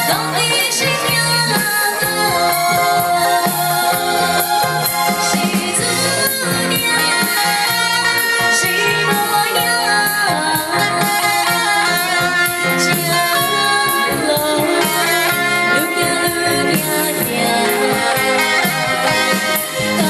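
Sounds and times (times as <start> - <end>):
live band playing pop song: 0.0 - 20.0
person singing: 0.0 - 20.0.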